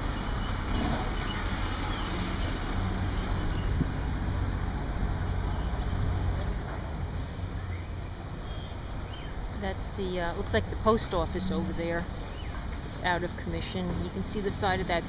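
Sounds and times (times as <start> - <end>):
motor vehicle engine rumble: 0.0 - 15.0.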